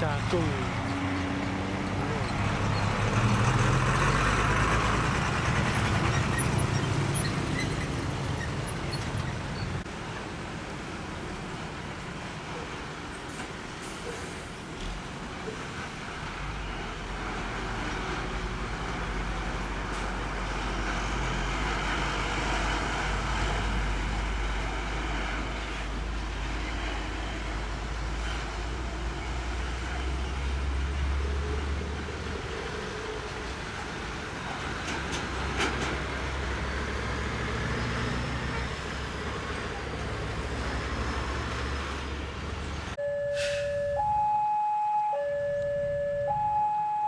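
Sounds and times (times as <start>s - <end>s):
road traffic passing: 0.0s - 44.4s, 45.0s - 46.8s.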